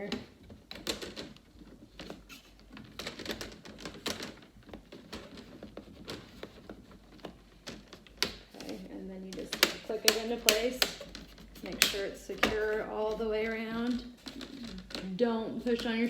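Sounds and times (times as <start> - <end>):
plastic clicks and knocks: 0.0 - 16.0.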